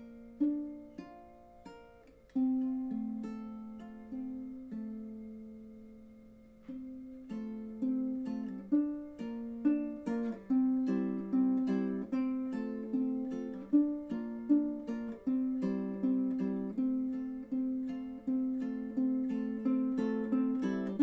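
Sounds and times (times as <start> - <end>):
ukulele plucked chords: 0.0 - 21.0.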